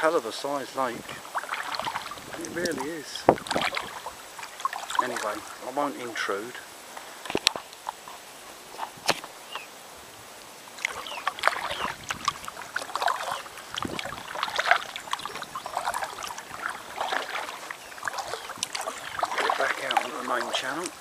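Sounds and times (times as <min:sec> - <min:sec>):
paddle splashing through water: 0:00.0 - 0:09.7, 0:10.6 - 0:21.0
water dripping: 0:00.3 - 0:08.2, 0:10.4 - 0:21.0.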